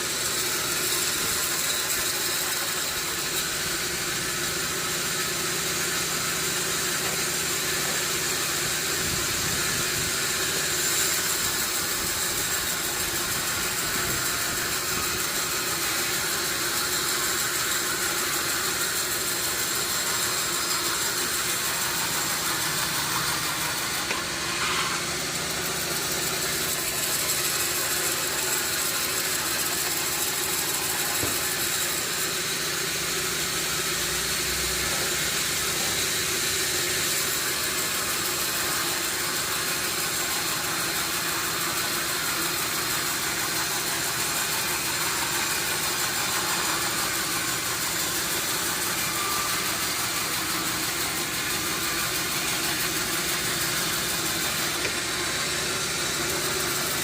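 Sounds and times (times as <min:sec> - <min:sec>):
sawmill machinery drone: 0:00.0 - 0:57.0
hiss: 0:00.1 - 0:57.0.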